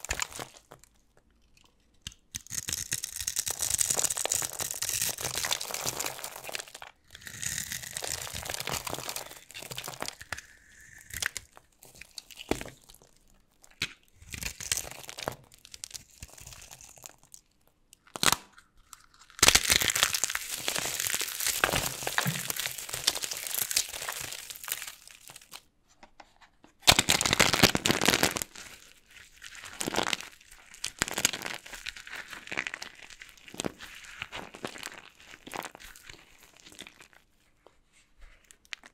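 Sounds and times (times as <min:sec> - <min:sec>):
dried soap crunching and crackling: 0:00.0 - 0:25.7, 0:26.8 - 0:38.9.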